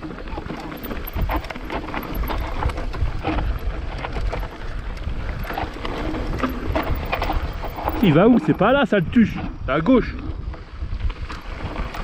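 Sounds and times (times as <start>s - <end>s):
bike rattling on rough trail: 0.0s - 12.0s
wind buffeting microphone: 0.0s - 12.0s.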